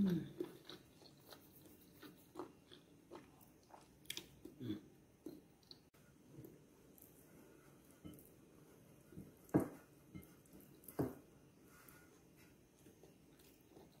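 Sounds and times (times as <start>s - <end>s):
soft squishing of food by hand: 0.0s - 14.0s.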